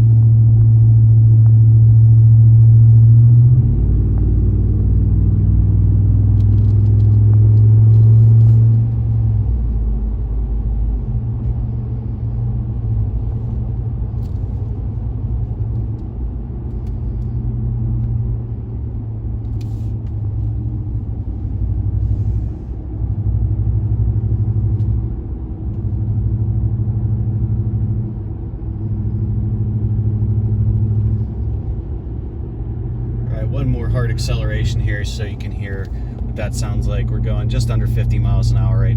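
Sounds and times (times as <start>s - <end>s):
engine exhaust drone: 0.0s - 38.9s.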